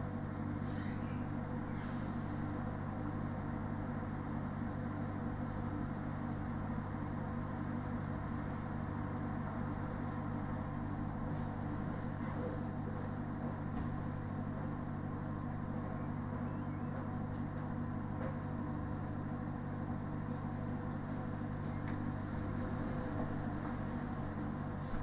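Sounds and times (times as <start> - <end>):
refrigeration unit humming: 0.0 - 25.0.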